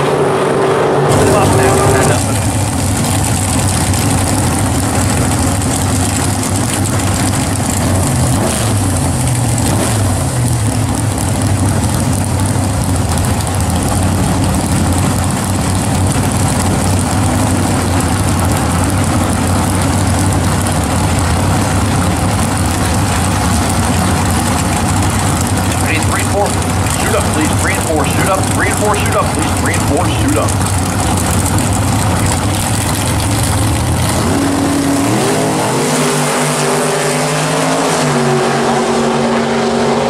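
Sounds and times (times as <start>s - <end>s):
car engines idling: 0.0s - 40.0s.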